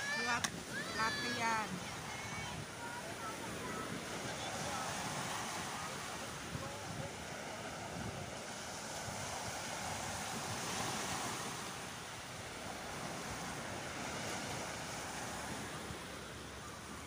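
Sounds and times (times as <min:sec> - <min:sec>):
small waves breaking on beach: 0:00.0 - 0:17.0
wind rumbling on microphone: 0:00.0 - 0:17.0.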